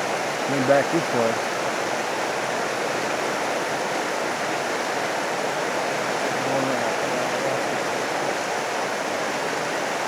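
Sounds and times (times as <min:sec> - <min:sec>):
rain: 0:00.0 - 0:10.0
wind: 0:00.0 - 0:10.0.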